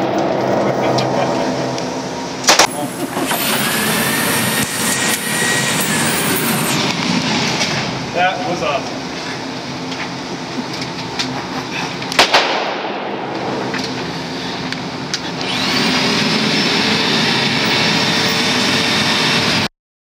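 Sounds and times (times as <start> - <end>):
engine revving with rising whine: 0.0 - 11.5, 12.7 - 19.7
engine running: 0.0 - 19.7.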